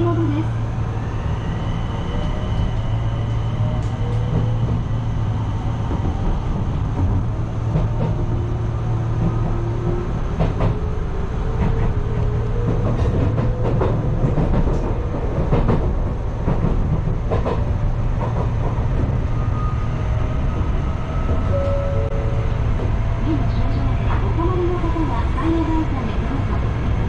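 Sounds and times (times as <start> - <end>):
train rumble: 0.0 - 27.0
wheels clacking on rails: 3.6 - 27.0.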